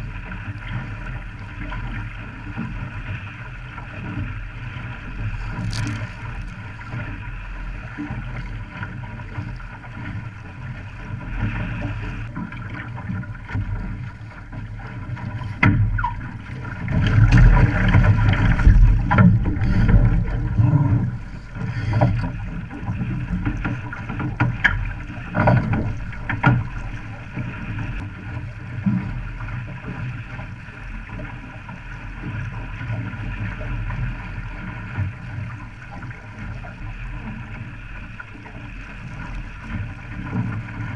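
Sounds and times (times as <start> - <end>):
water rushing and slapping: 0.0 - 40.9
wind rumble on microphone: 0.0 - 40.9.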